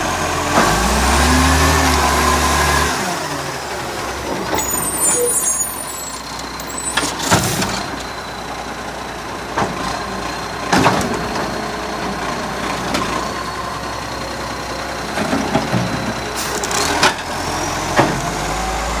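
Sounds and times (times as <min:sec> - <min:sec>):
garbage truck engine running: 0:00.1 - 0:19.0.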